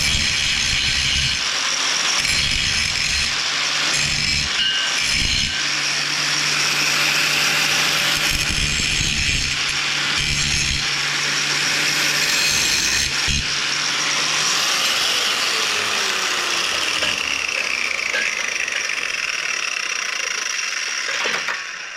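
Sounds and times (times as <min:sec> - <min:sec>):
angle grinder grinding steel: 0:00.0 - 0:21.9
grinder winding down: 0:00.0 - 0:21.9.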